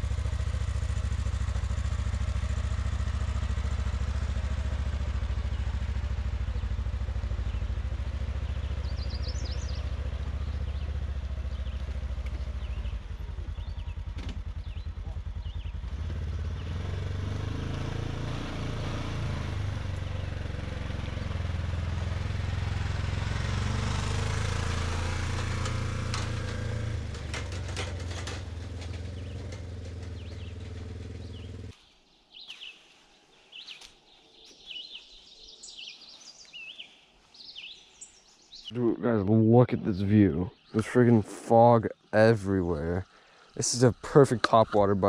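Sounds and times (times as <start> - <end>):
small birds chirping: 0.0 - 17.5, 19.8 - 45.0
utility vehicle engine running: 0.0 - 31.8, 39.8 - 45.0.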